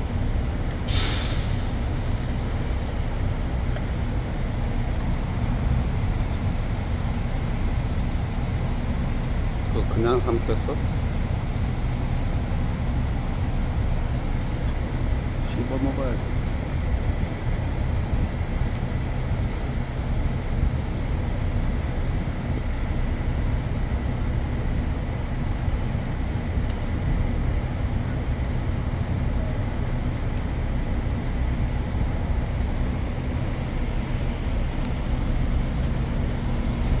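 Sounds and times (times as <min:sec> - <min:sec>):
faint steady whine: 0:00.0 - 0:37.0
ship machinery rumbling: 0:00.0 - 0:37.0.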